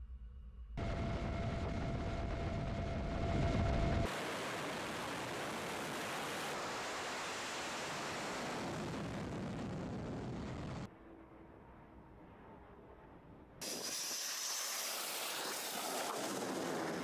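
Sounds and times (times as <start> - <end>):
jet engine rumble and whine: 0.5 - 17.0.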